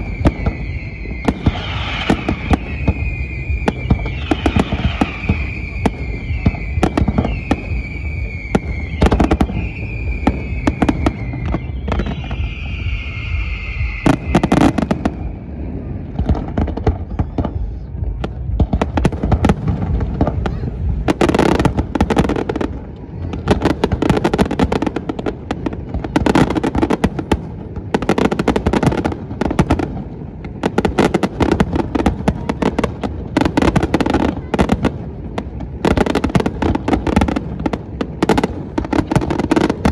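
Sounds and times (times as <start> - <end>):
falling firework whistle: 0.0 - 39.9
firework bursts and crackling: 0.0 - 39.9.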